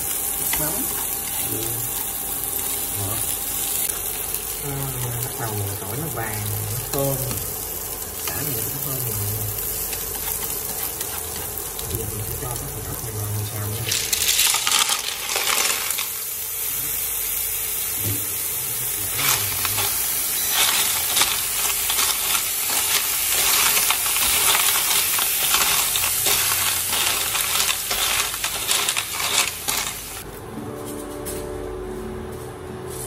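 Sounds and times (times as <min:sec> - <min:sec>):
sizzling in hot oil: 0:00.0 - 0:30.3.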